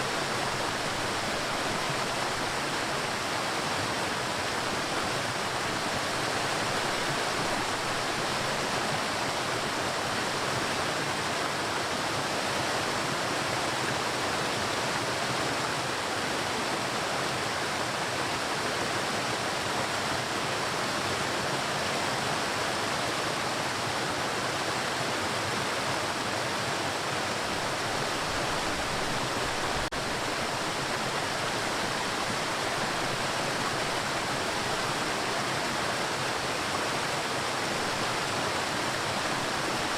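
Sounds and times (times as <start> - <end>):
waterfall rushing: 0.0 - 18.7, 23.2 - 39.9.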